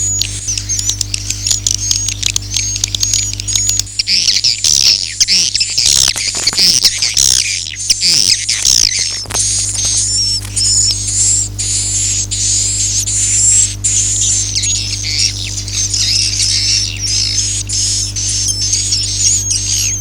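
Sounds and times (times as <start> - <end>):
low hum: 0.0 - 20.0
swiftlets twittering: 0.0 - 20.0.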